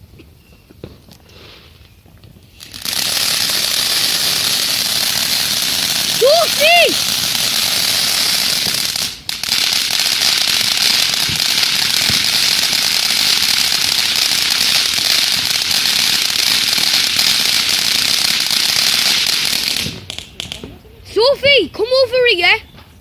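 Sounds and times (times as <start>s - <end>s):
firework fountain hissing: 0.9s - 21.3s.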